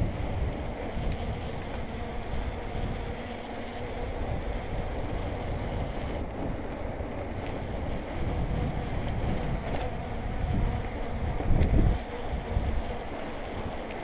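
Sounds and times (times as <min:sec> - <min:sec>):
low rumble of bike rolling: 0:00.0 - 0:14.0
wind rushing over microphone: 0:00.0 - 0:14.0.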